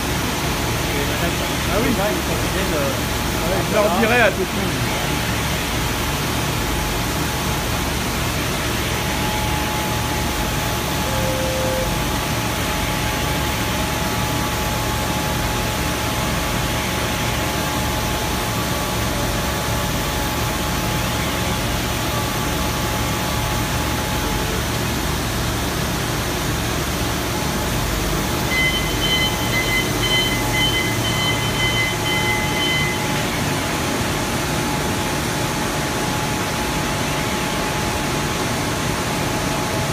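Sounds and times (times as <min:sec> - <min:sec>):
factory machinery hum and hiss: 0:00.0 - 0:39.9
high machine whine: 0:00.0 - 0:39.9.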